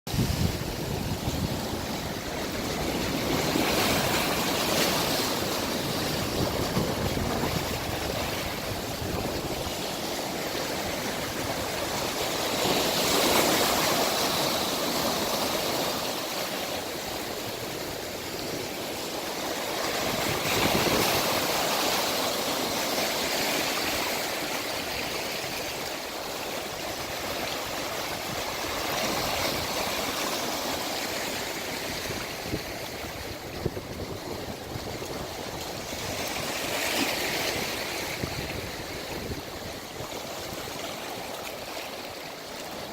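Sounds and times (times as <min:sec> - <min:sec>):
sea waves breaking on shore: 0:00.1 - 0:42.9.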